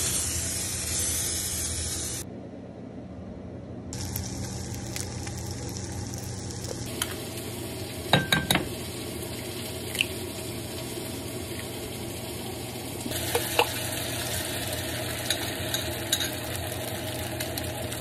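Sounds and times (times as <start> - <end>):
food sizzling in a frying pan: 0.0 - 2.2, 4.0 - 18.0.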